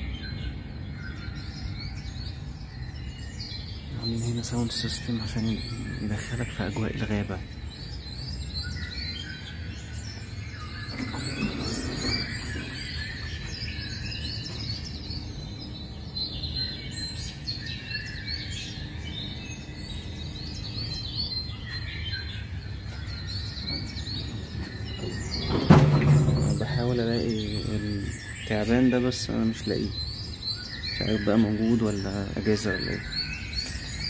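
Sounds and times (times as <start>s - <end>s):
bird chirps and calls: 0.0s - 34.0s.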